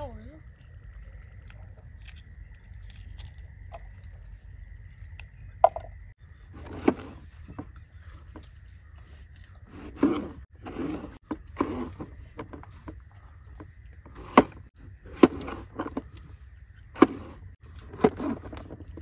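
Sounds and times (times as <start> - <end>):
insect trill: 0.0 - 19.0.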